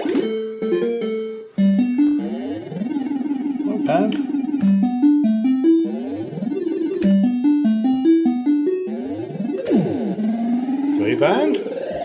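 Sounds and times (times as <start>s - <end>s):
rising electronic beeps: 0.2s - 12.0s.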